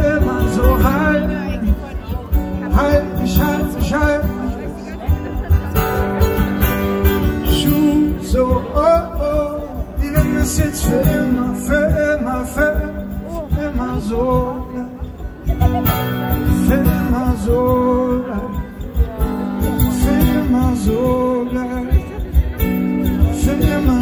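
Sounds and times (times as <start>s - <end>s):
guitar: 0.0s - 24.0s.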